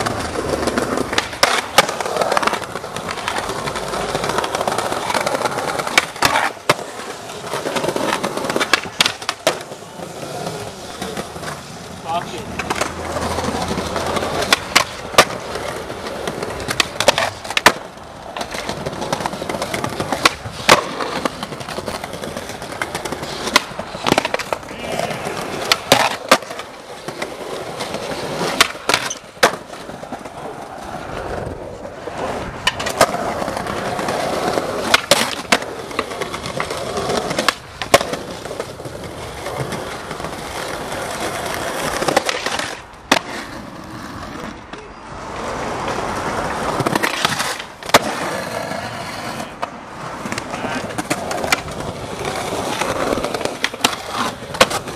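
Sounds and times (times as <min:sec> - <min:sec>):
skateboard clacks: 0:00.0 - 0:54.9
skateboard trucks scraping ledge: 0:00.0 - 0:54.9
skateboards rolling on stone: 0:00.0 - 0:54.9.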